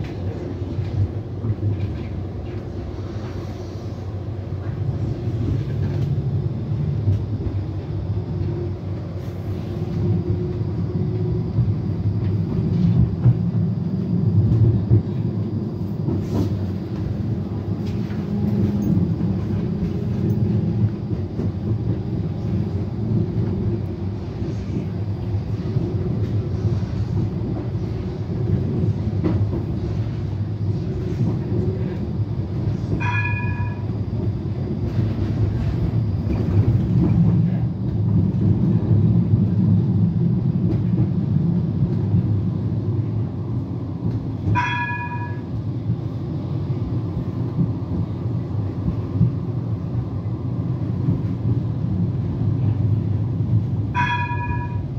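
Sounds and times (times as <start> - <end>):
tram wheels rumbling on rails: 0.0 - 54.9.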